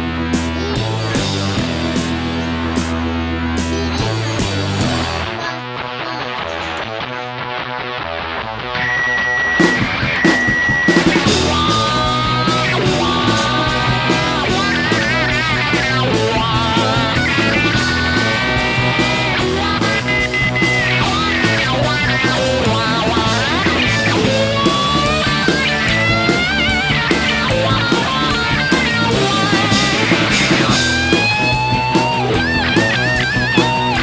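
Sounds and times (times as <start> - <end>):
rock music with lead guitar: 0.0 - 34.0.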